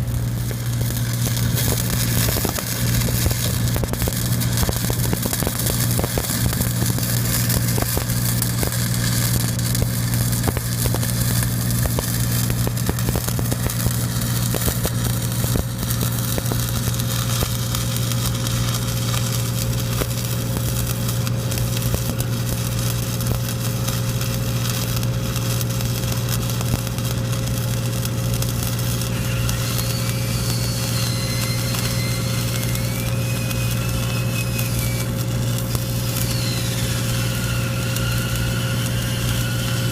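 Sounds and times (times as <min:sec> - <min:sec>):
welding arc crackling: 0:00.0 - 0:39.9
welding machine engine drone: 0:00.0 - 0:39.9.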